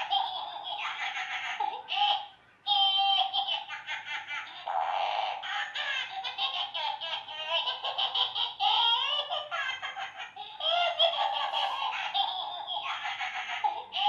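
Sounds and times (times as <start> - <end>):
toy monkey laughing through speaker: 0.0 - 14.0.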